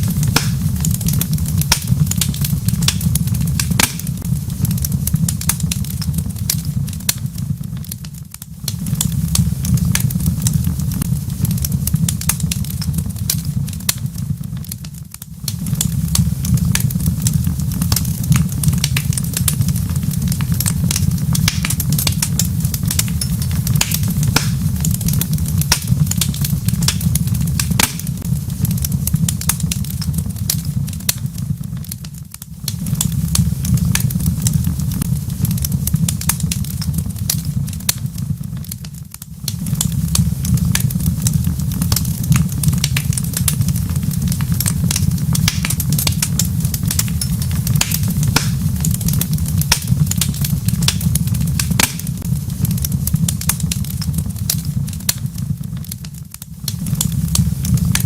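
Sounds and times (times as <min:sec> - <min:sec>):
low rumble of fire: 0:00.0 - 0:58.0
wood fire crackling and popping: 0:00.0 - 0:58.0.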